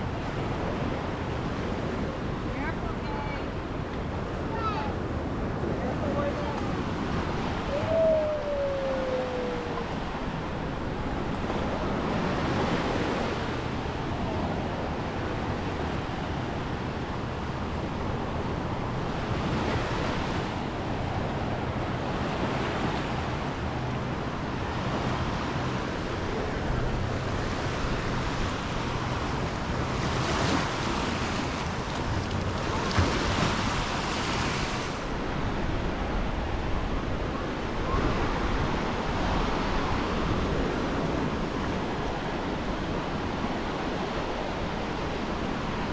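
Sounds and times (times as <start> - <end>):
surf washing up a beach: 0.0 - 45.9.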